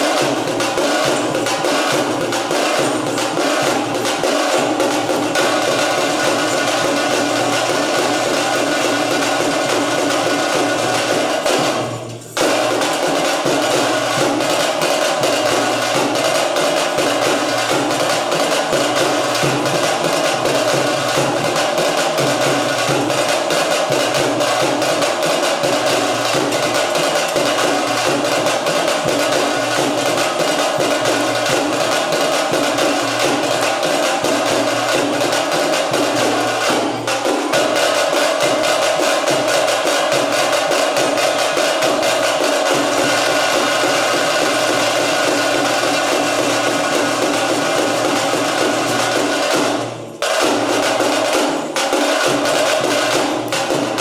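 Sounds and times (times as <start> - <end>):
fast folk drumming: 0.0 - 54.0.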